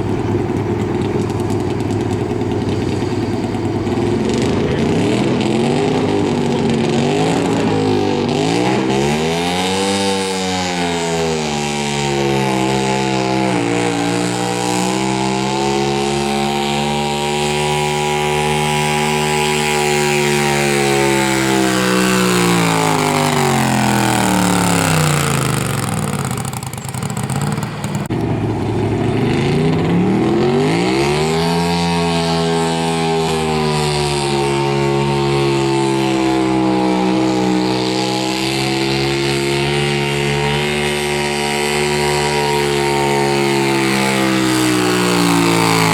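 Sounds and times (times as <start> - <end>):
garden tractor engine running: 0.0 - 45.9.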